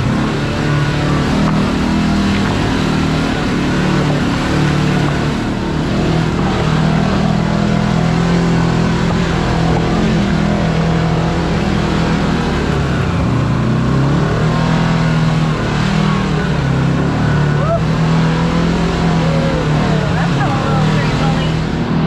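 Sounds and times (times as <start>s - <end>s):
side-by-side engine running: 0.0s - 22.0s.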